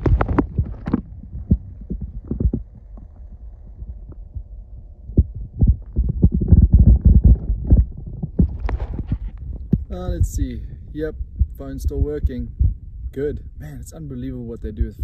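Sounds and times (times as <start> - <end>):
underwater thumps and rumbling: 0.0 - 13.1.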